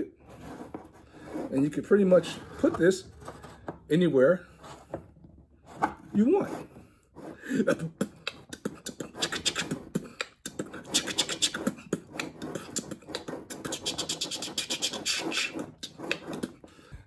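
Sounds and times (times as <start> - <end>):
scratching inside plastic tank: 0.1 - 3.9, 4.5 - 16.7.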